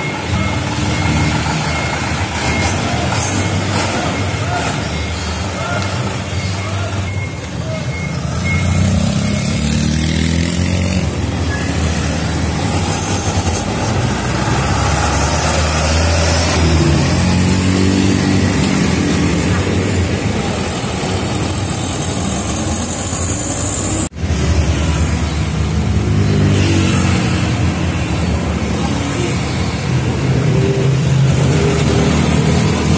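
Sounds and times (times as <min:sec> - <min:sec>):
diesel truck accelerating: 0:00.0 - 0:32.9
steady traffic noise: 0:00.0 - 0:32.9
trucks passing close: 0:00.0 - 0:32.9.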